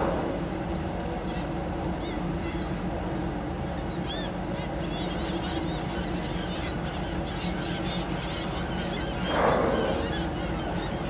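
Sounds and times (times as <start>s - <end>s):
boat engine hum: 0.0s - 11.0s
seabirds calling: 0.0s - 11.0s.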